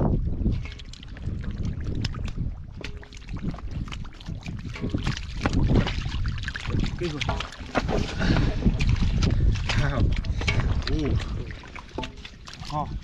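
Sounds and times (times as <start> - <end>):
muddy water splashing: 0.0 - 13.0
wind on microphone: 0.0 - 13.0.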